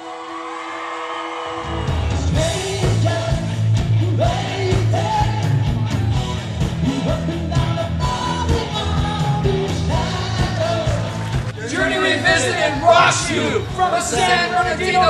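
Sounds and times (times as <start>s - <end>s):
rock song with singer: 1.3s - 15.0s.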